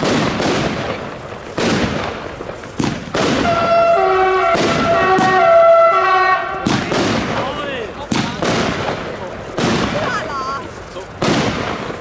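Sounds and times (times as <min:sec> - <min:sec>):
firework shots: 0:00.0 - 0:12.0.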